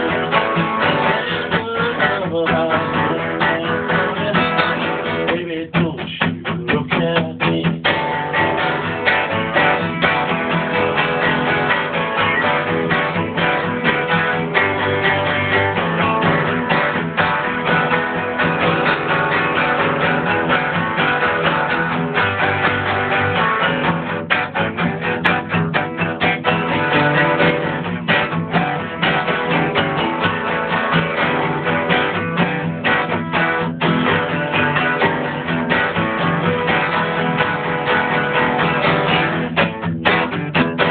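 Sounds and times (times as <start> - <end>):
guitar plucked and strummed: 0.0 - 40.9.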